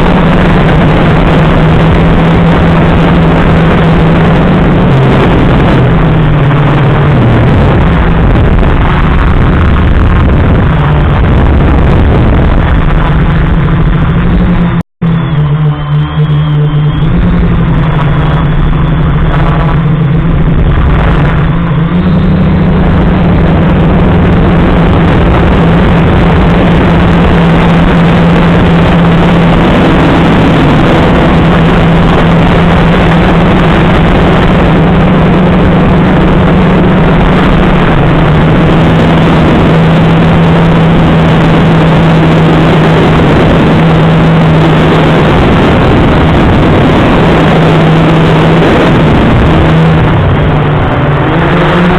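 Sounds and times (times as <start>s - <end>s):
drone motors buzzing: 0.0s - 51.9s
rushing air: 0.0s - 51.9s.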